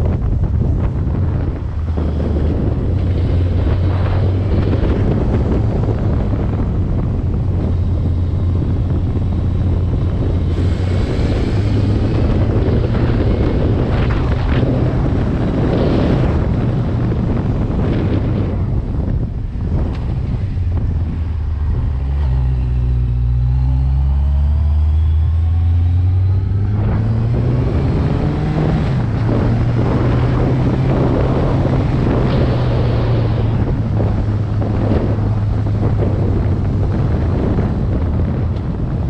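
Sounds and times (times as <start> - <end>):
vehicle engine running: 0.0 - 39.0
wind buffeting microphone: 0.0 - 39.0.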